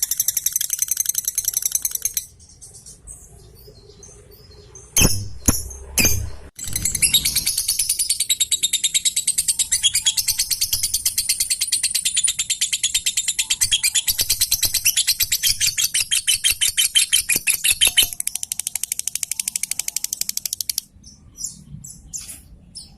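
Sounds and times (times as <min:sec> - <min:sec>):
lovebird chattering chirps: 0:00.0 - 0:03.0, 0:04.4 - 0:20.9.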